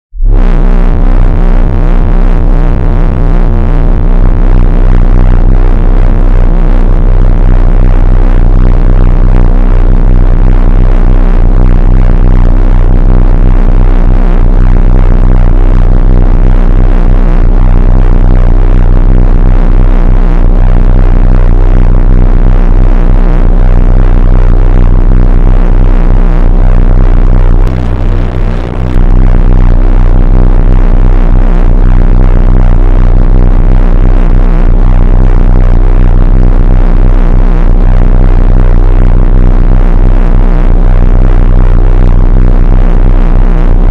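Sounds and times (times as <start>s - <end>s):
loudspeaker buzzing hum: 0.0s - 43.9s.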